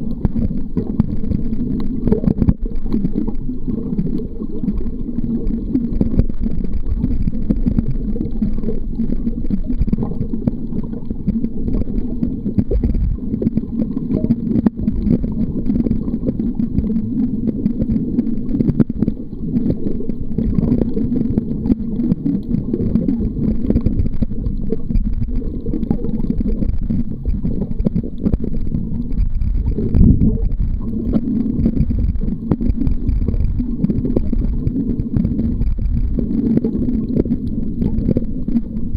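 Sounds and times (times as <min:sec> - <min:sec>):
underwater rumble of water: 0:00.0 - 0:38.9.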